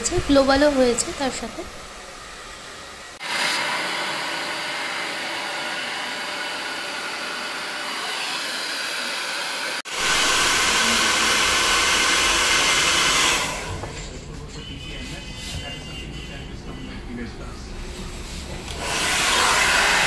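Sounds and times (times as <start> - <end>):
hair dryer blowing: 0.0 - 14.1, 18.0 - 20.0.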